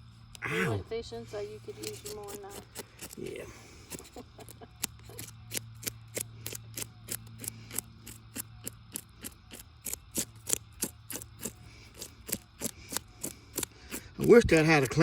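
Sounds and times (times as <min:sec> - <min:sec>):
knife scraping fish scales: 0:01.6 - 0:15.0.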